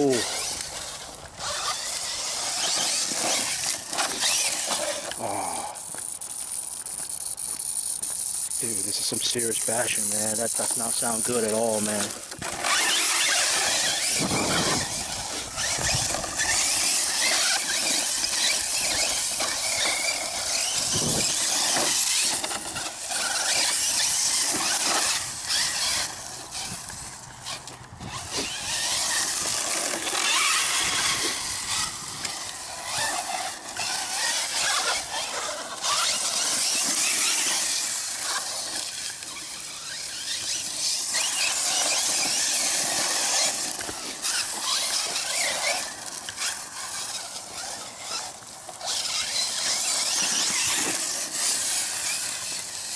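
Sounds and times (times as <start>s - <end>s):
rc car motor whining: 0.0s - 52.9s
tyres crunching over stones: 2.3s - 47.7s.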